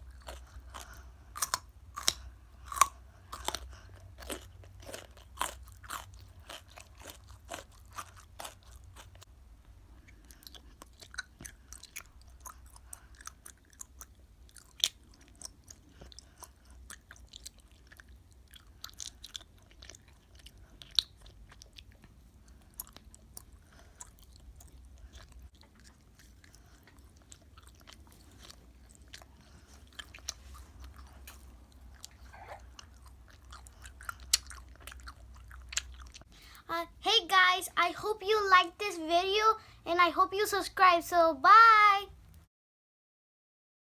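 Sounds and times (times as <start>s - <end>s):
crunchy food chewing: 0.0s - 9.3s, 9.9s - 36.6s.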